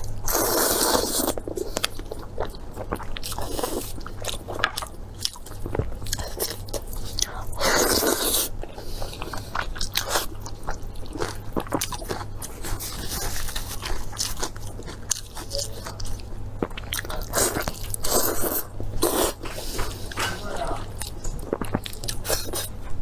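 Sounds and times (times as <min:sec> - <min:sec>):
crunchy chewing: 0:00.0 - 0:23.0.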